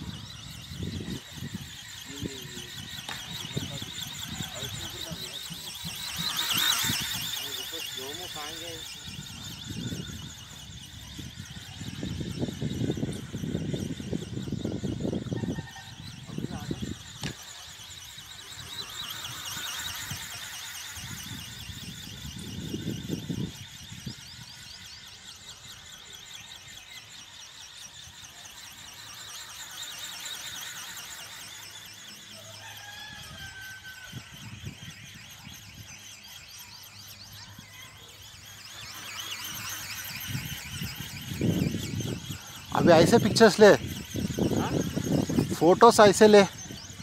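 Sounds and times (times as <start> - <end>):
high wavering electric motor whine: 0.0 - 47.0.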